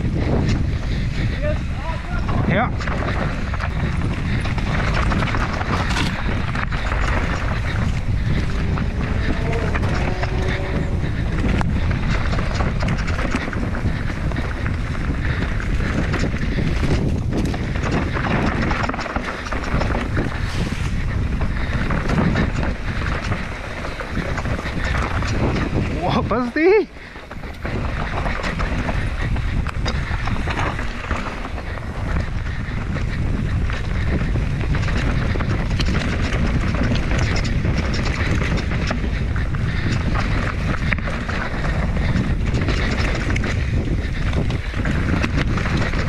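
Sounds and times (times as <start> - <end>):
bike knocking and rattling: 0.0 - 46.0
wind rushing over microphone: 0.0 - 46.0.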